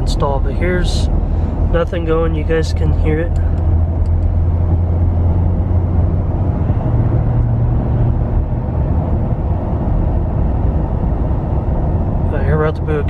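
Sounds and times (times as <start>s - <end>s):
diesel engine drone: 0.0s - 13.0s
tyre and road noise: 0.0s - 13.0s.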